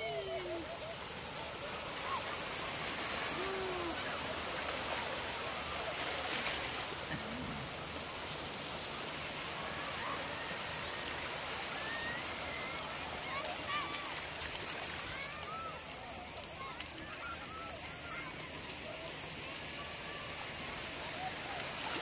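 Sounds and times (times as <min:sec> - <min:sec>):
waves washing on shoreline: 0:00.0 - 0:22.0.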